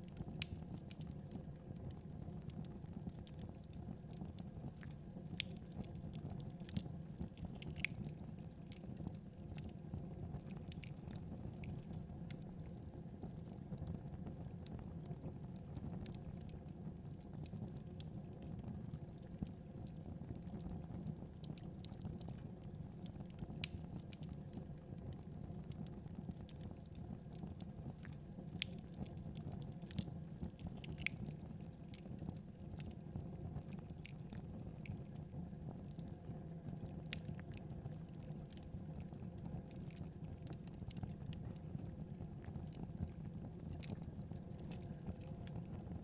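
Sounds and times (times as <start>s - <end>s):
fire popping and snapping: 0.0s - 46.0s
wood fire crackling: 0.0s - 46.0s.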